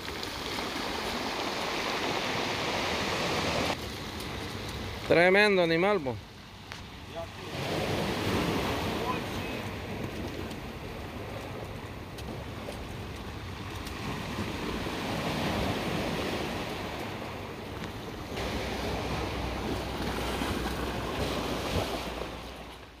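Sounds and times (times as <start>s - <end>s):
surf washing on stony beach: 0.0s - 23.0s.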